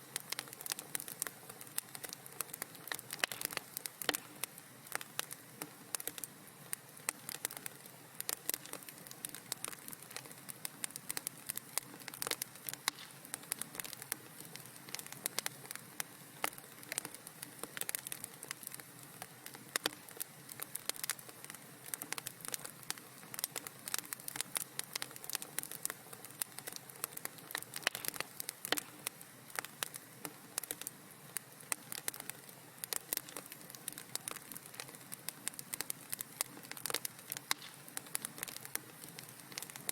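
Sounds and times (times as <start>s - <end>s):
soft hiss: 0.0s - 39.9s
wood fire crackling and popping: 0.0s - 39.9s.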